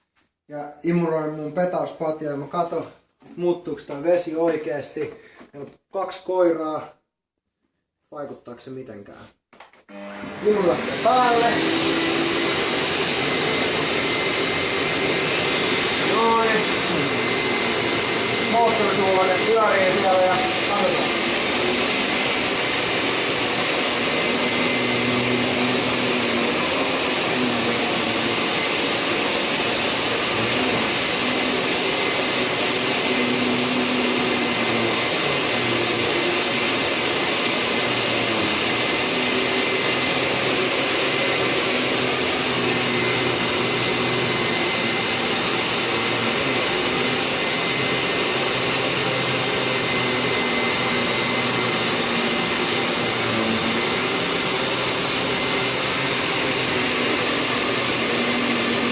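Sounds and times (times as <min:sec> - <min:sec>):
vacuum cleaner running: 0:09.9 - 0:58.9.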